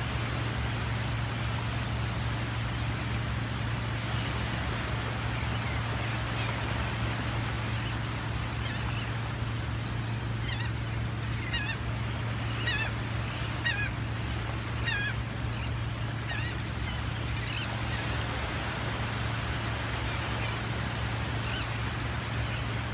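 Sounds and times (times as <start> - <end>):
seabirds calling hoarsely: 0.0 - 22.9
small surf waves: 0.0 - 22.9.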